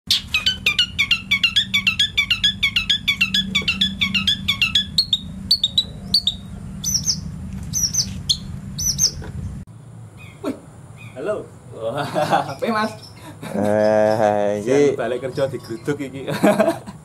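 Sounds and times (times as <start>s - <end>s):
songbird chirping: 0.1s - 11.5s, 12.4s - 14.4s, 15.2s - 16.2s
low steady hum: 0.1s - 17.0s.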